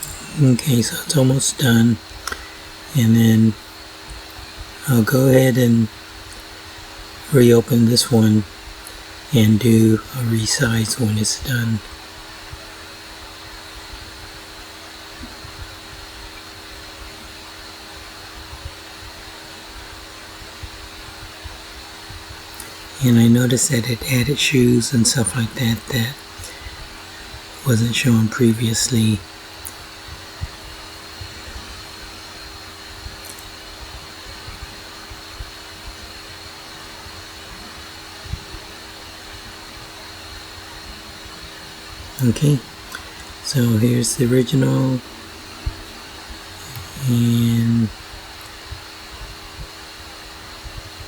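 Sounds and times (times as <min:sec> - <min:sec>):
computer fan whirring: 0:00.0 - 0:51.0
faint hum: 0:00.0 - 0:51.0.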